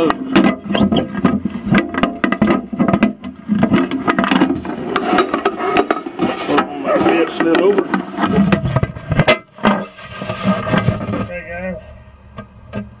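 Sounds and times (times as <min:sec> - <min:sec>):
muffled knocks and scrapes in metal box: 0:00.0 - 0:11.5.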